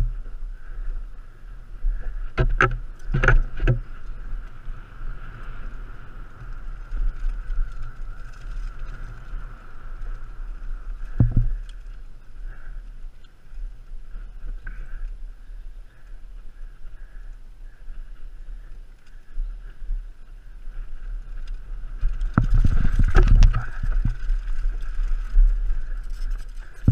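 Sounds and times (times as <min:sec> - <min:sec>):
bike rattling over bumps: 0:00.0 - 0:26.9
wind and tyre rumble: 0:00.0 - 0:26.9.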